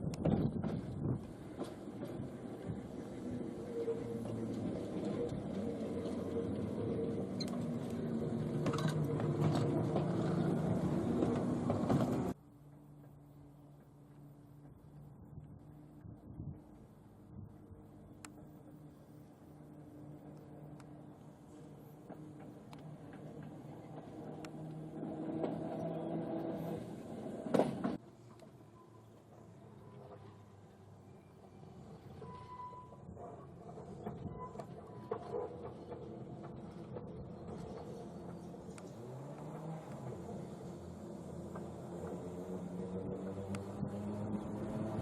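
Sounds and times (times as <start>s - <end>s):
electric tram motor hum: 0.0s - 45.0s.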